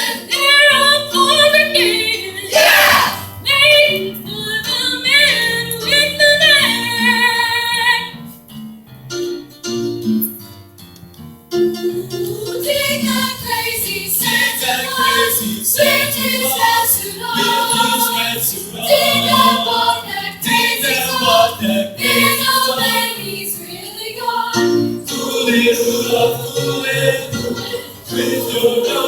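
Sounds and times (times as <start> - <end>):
chorus singing in harmony: 0.0 - 7.7, 11.8 - 29.0.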